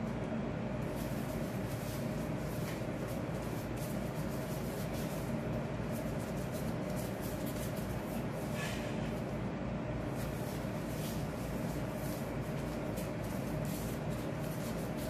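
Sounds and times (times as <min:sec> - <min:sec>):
gloved hands shaping dough: 0:00.0 - 0:15.0
low room hum: 0:00.0 - 0:15.0.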